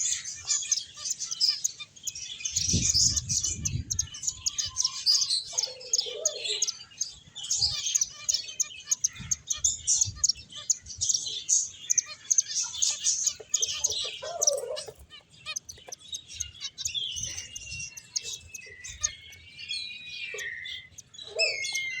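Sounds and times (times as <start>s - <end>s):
finches chirping: 0.0s - 22.0s.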